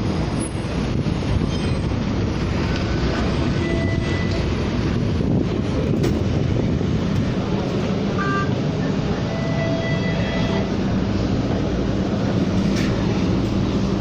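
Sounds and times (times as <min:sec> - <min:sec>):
streetcar rumble: 0:00.0 - 0:14.0.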